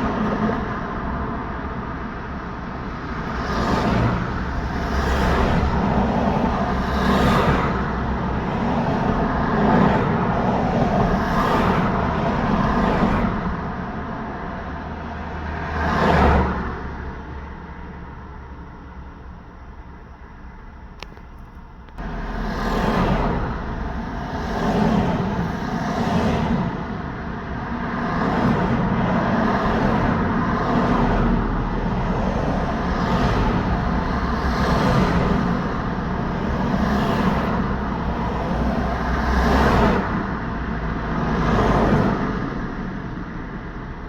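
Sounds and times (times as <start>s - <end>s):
cars and trucks passing: 0.0s - 44.0s.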